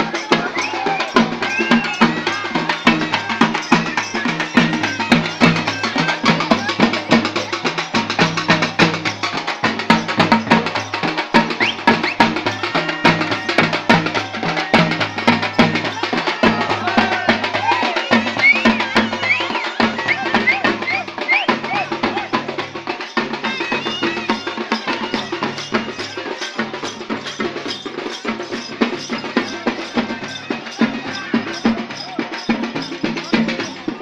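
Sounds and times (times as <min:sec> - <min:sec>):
frame drums beaten fast: 0:00.0 - 0:34.0.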